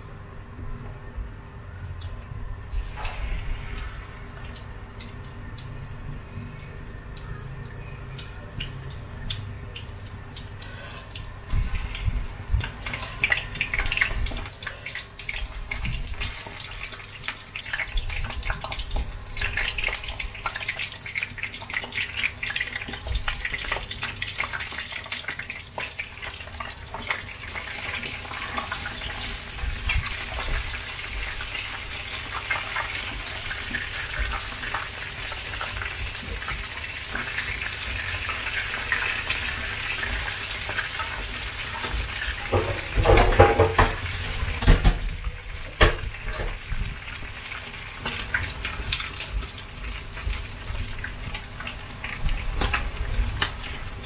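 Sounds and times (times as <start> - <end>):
oil sizzling in pan: 9.8 - 54.0.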